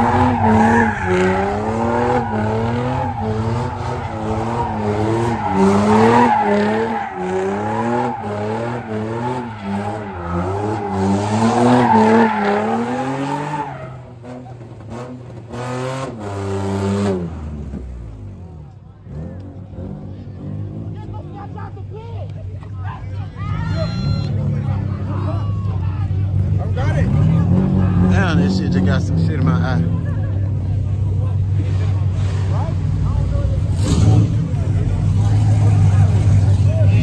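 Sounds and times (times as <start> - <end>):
car engine revving: 0.0 - 21.9, 23.7 - 37.0
tires squealing: 0.0 - 37.0.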